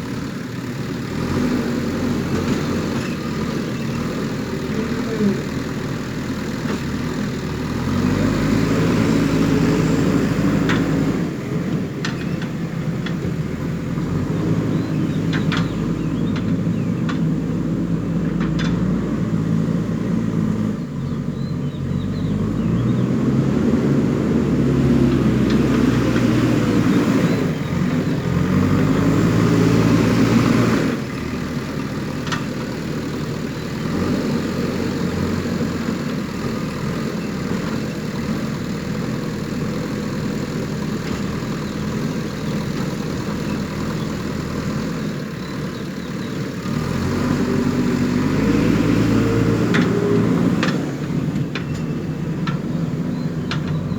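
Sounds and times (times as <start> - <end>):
diesel engine working under load: 0.0 - 53.9.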